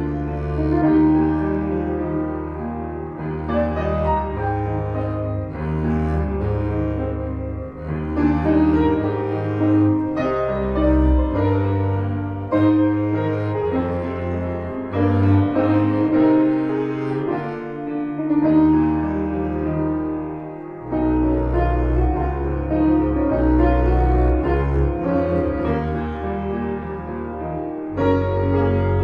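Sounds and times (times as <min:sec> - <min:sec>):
bowed double bass: 0:00.0 - 0:29.0
grand piano: 0:00.0 - 0:29.0.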